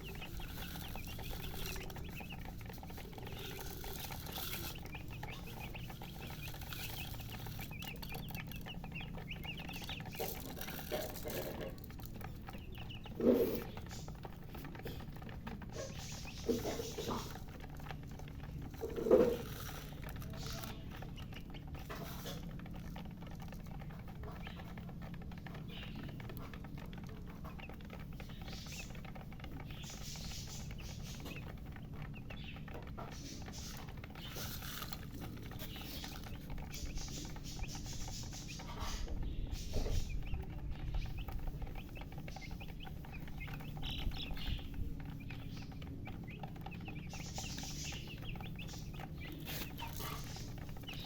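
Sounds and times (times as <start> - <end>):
baby chicks peeping: 0.0 - 51.0
steady low hum: 0.0 - 51.0.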